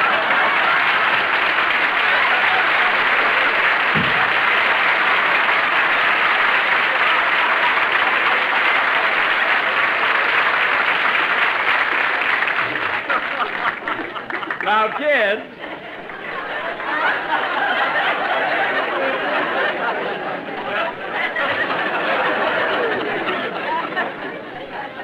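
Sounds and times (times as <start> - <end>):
studio audience applauding: 0.0 - 24.2.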